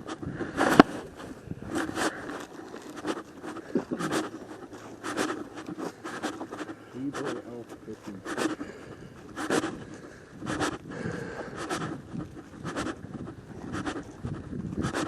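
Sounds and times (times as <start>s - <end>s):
footsteps crunching on trail: 0.0s - 15.0s.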